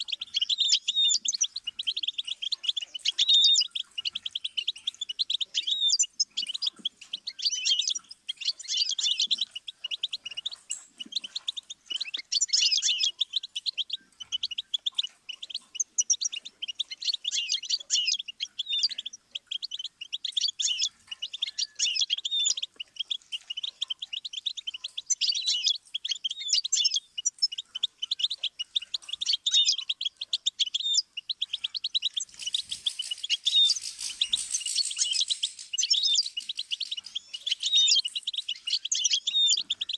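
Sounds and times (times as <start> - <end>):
bird high twittering song: 0.0 - 39.9.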